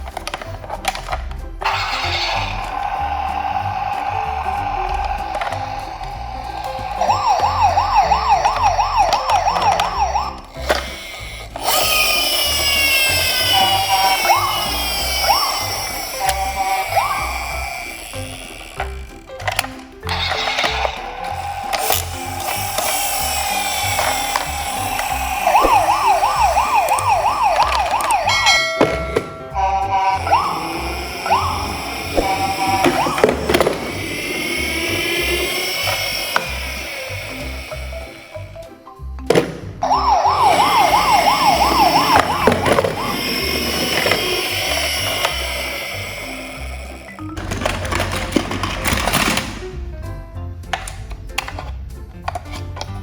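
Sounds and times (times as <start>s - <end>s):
background music with steady beat: 0.0s - 53.0s
siren wailing: 1.6s - 19.2s, 20.1s - 38.6s, 39.8s - 48.1s.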